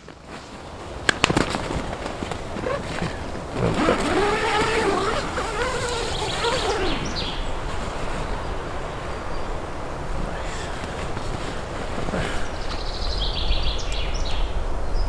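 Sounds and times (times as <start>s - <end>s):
steady rustling hiss: 0.0s - 15.0s.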